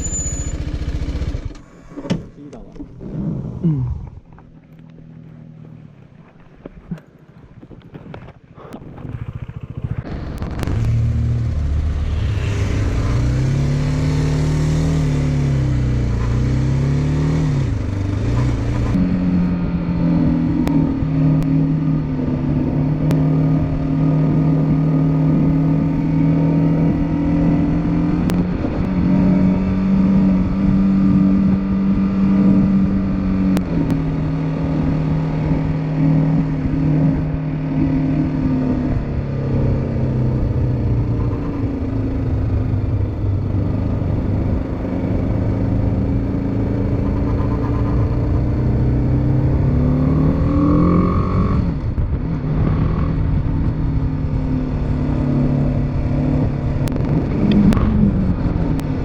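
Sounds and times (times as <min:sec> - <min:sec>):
motorcycle engine accelerating: 0:00.0 - 0:01.7, 0:07.6 - 0:59.0.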